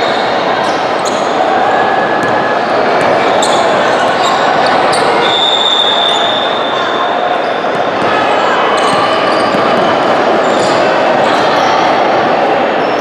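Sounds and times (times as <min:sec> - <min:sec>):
gym noise and voices: 0:00.0 - 0:13.0.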